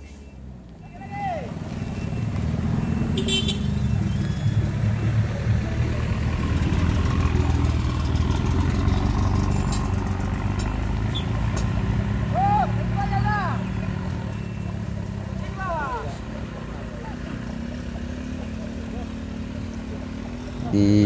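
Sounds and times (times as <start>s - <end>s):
vehicle engines droning: 0.0s - 21.0s.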